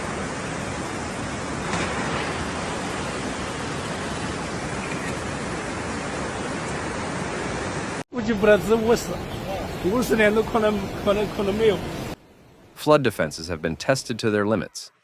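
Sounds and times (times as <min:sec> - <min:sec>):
loud rush of water: 0:00.0 - 0:12.2.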